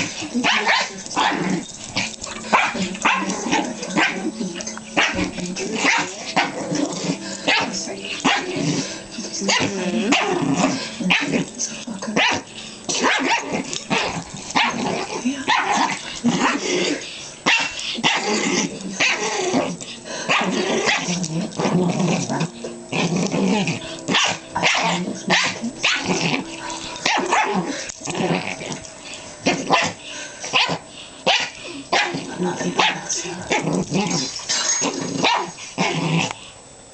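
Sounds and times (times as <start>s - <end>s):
small dogs barking and yipping: 0.0s - 36.2s
dogs growling: 0.0s - 36.6s.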